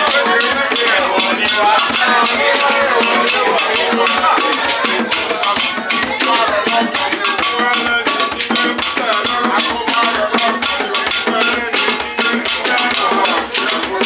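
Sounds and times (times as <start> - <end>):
drums and percussion beat: 0.0 - 14.0
voices singing: 0.0 - 14.0.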